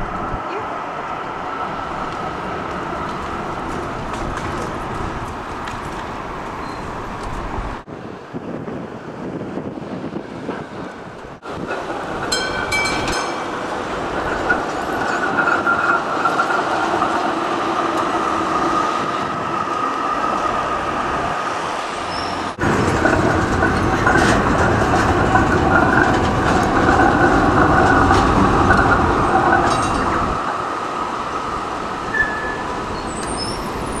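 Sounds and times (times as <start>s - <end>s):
high whine from tram wheels: 0.0s - 34.0s
tram wheel-on-rail rumble: 0.0s - 34.0s.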